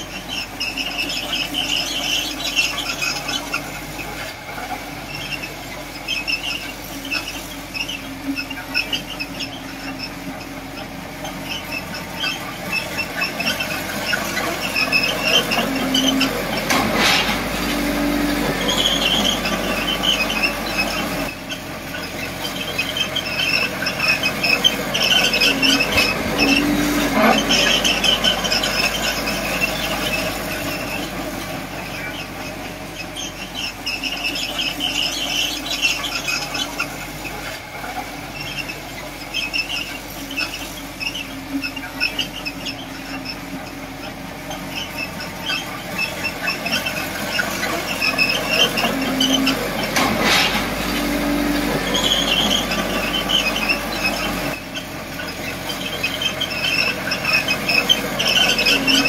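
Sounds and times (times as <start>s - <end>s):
diesel engine running: 0.0s - 59.0s
steel tracks squealing: 0.0s - 59.0s.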